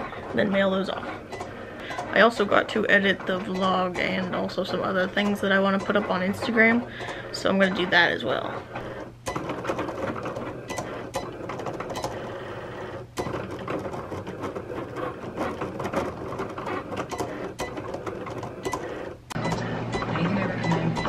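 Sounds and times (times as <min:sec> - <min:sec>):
cutting machine whirring and clicking: 0:00.0 - 0:21.0.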